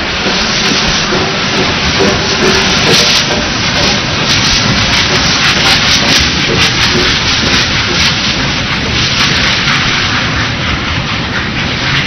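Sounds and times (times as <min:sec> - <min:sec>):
steam locomotive exhaust rush: 0:00.0 - 0:12.0.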